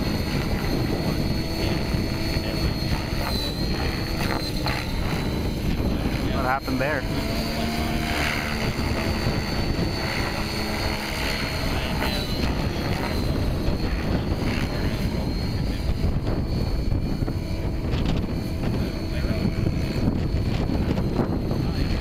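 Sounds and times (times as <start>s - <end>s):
model helicopter rotor noise: 0.0s - 22.0s
thin high whine: 0.0s - 22.0s.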